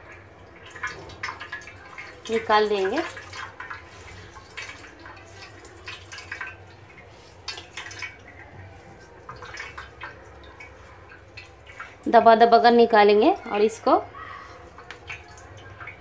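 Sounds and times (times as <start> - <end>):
water dripping into colander: 0.0 - 16.0.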